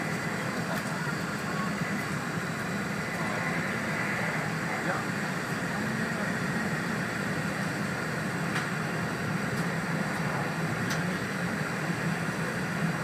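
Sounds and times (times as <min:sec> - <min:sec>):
train running noise in cabin: 0:00.0 - 0:13.0.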